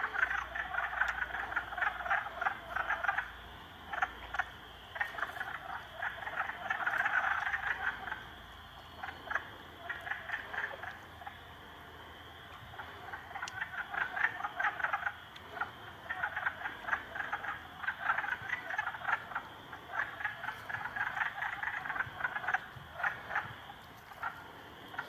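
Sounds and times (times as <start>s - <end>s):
frogs croaking: 0.0s - 25.0s.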